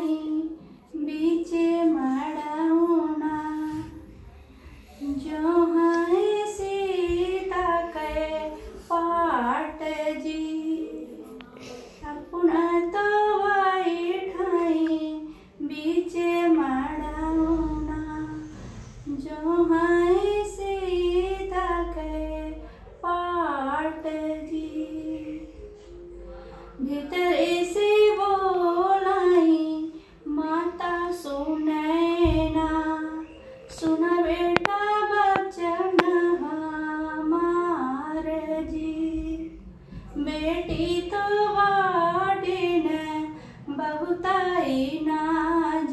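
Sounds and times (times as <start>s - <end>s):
woman singing unaccompanied: 0.0s - 18.5s, 19.1s - 26.1s, 26.7s - 45.9s.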